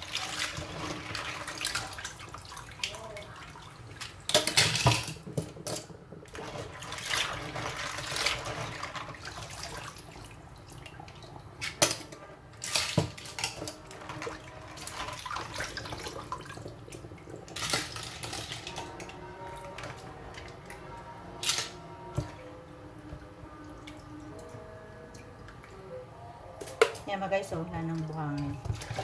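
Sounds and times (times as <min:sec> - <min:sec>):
water sloshing and splashing: 0:00.0 - 0:25.9, 0:26.6 - 0:29.0.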